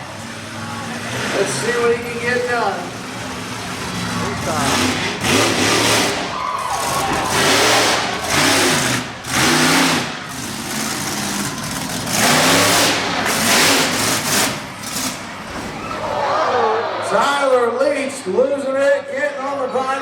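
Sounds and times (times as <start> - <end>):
monster truck engine revving: 0.0 - 17.6.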